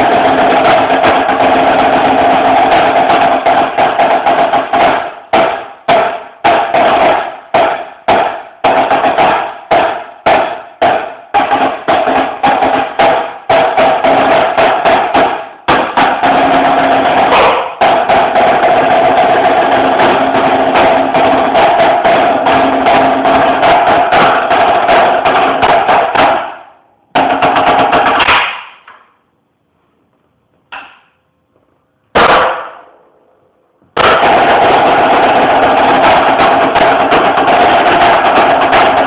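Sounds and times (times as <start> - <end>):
snare drum strokes and rolls: 0.0 - 29.0, 32.1 - 33.0, 33.9 - 39.0.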